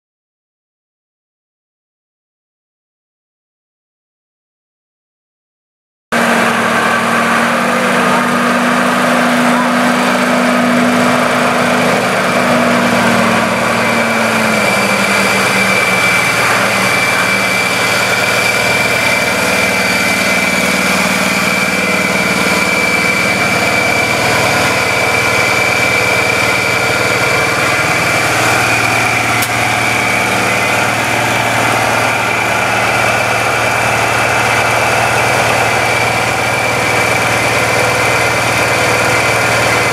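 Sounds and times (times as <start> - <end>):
truck engine running: 6.1 - 39.9.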